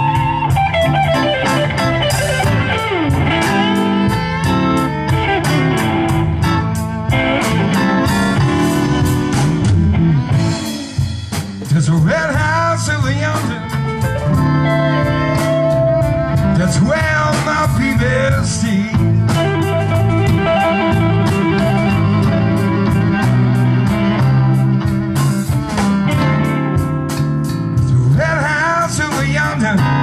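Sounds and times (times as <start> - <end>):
live blues band playing: 0.0 - 30.0.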